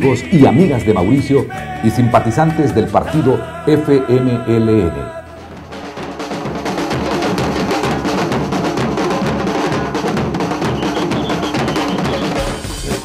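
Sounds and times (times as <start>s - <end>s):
drum band playing: 0.0s - 13.0s.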